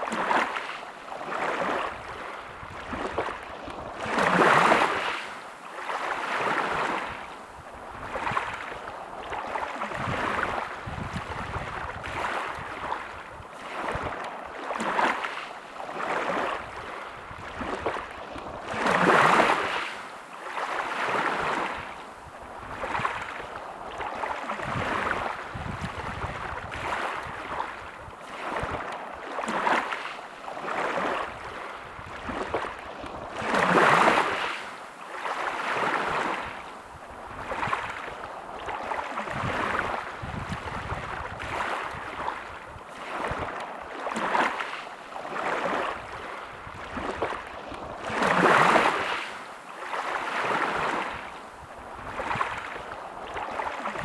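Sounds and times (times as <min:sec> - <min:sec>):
sea waves breaking on a beach: 0:00.0 - 0:54.0.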